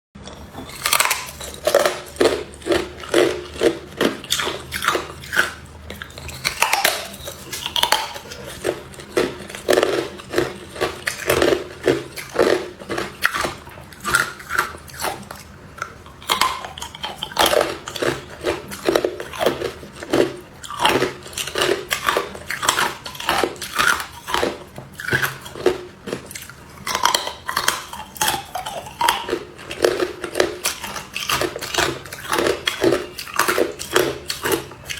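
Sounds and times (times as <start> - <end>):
person crunching ice: 0.6 - 15.2, 16.3 - 34.6.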